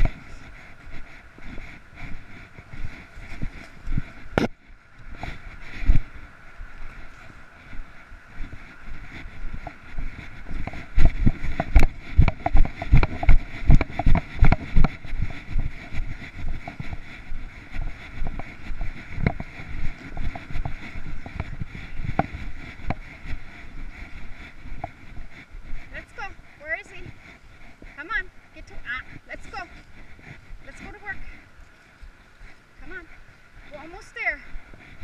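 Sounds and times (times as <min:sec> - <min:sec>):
footsteps in dry leaves and grass: 0:00.0 - 0:35.0
wind on microphone: 0:00.0 - 0:35.0.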